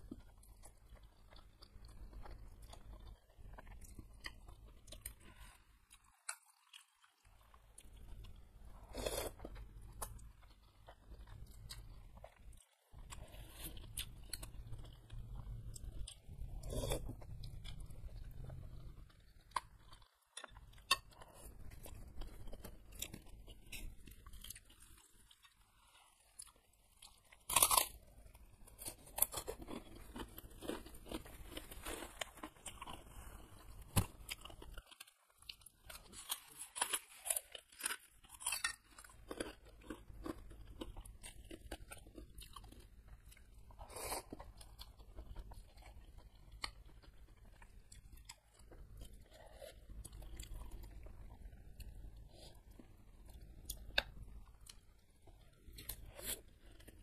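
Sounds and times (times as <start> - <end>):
chewing and slurping noodles: 0.1 - 57.0.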